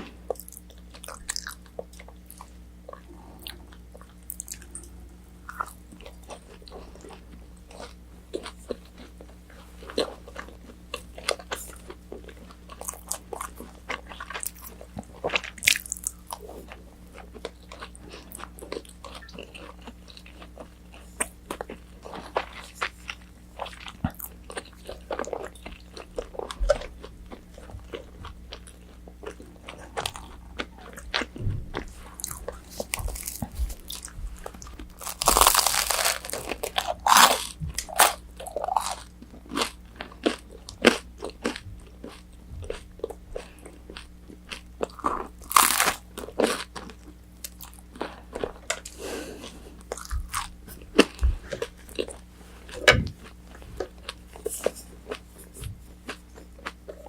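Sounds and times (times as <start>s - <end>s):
crunchy bites and chewing: 0.0s - 57.0s.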